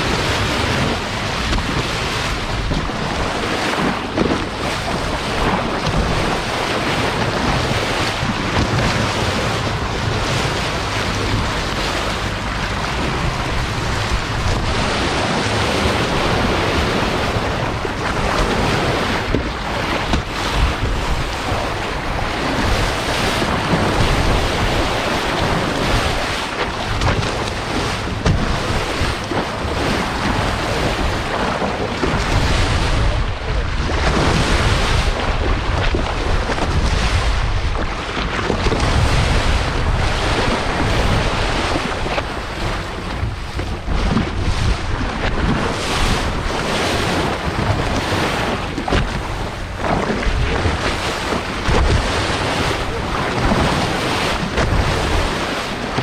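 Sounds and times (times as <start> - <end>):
waves against a boat: 0.0 - 56.0
wind blowing across microphone: 0.0 - 56.0.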